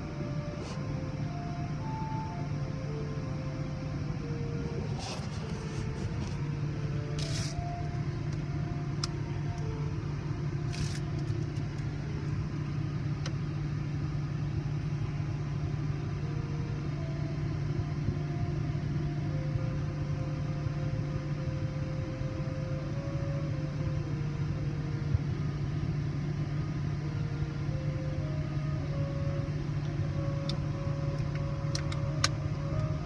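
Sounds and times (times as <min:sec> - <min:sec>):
car idling hum: 0:00.0 - 0:33.0.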